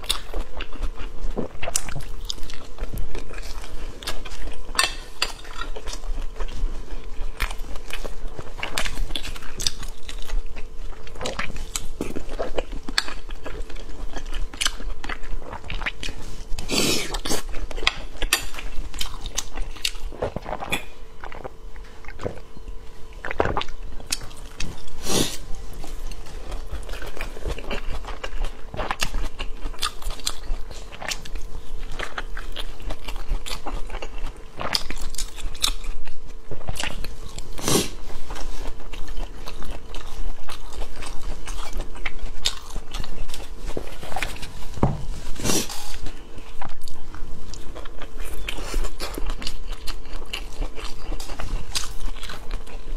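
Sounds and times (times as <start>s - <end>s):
crunchy chewing of flatbread: 0.0s - 52.9s
faint steady hum: 0.0s - 52.9s.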